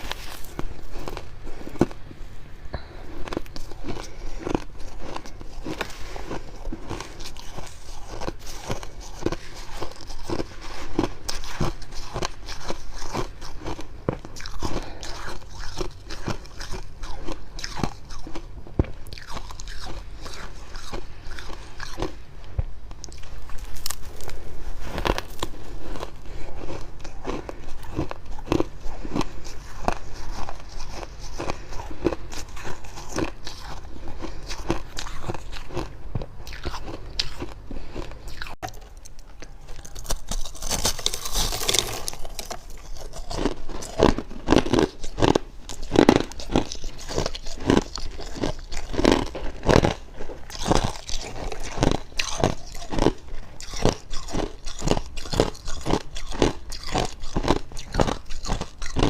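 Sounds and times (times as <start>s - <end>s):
person chewing crunchy frost: 0.0s - 59.0s.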